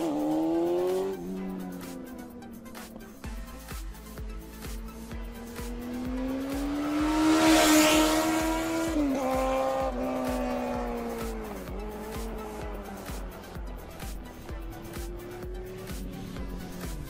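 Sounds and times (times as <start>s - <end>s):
background music with steady beat: 0.0s - 17.0s
race car engine revving: 0.0s - 17.0s.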